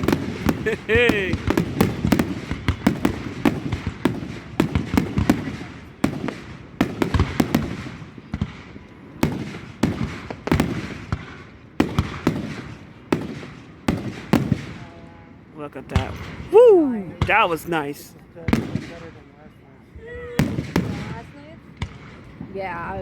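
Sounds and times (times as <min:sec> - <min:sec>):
fireworks bangs with echo: 0:00.0 - 0:14.9, 0:15.9 - 0:16.5, 0:17.1 - 0:19.3, 0:20.4 - 0:23.0.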